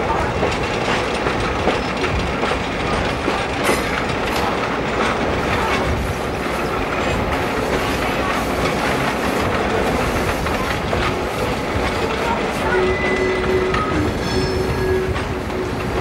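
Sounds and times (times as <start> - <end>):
track clacks: 0.0 - 16.0
train wheels rumbling on rail: 0.0 - 16.0.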